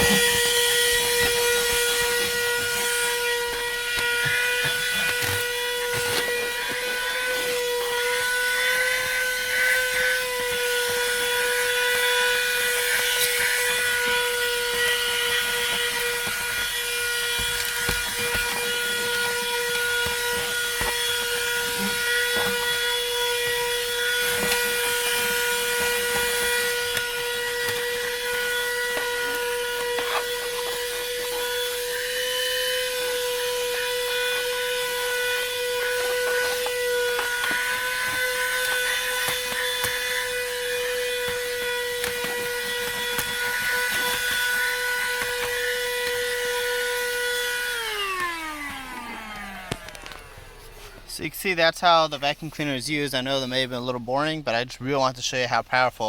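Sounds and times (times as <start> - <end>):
handheld vacuum motor whine: 0.0 - 51.2.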